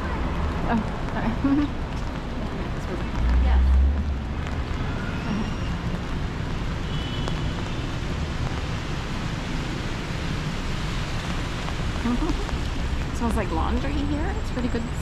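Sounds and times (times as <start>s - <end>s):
rain hissing: 0.0s - 15.0s
traffic on wet street: 0.0s - 15.0s.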